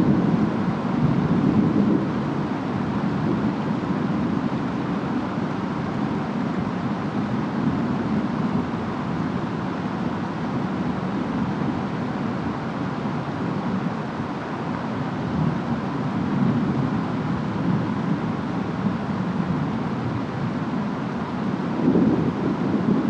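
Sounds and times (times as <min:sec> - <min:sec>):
rain: 0:00.0 - 0:23.0
wind: 0:00.0 - 0:23.0.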